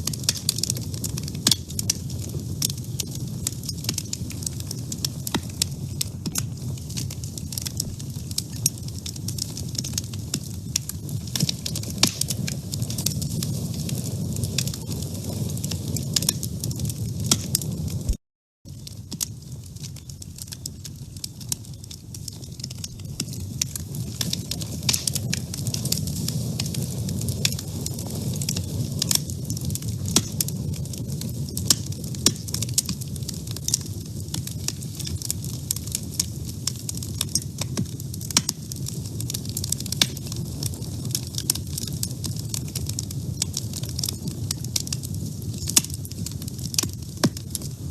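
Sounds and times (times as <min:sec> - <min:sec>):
wood fire burning in a stove: 0:00.0 - 0:47.9.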